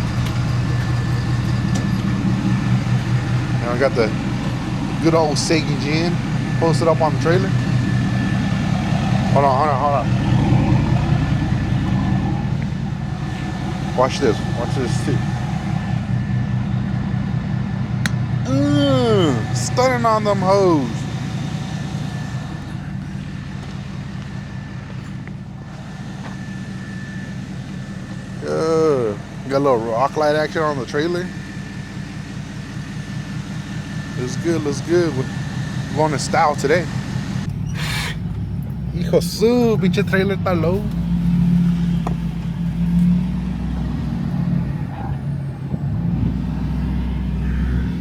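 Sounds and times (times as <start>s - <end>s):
faint steady whine: 0.0s - 48.0s
truck engine idling: 0.0s - 48.0s.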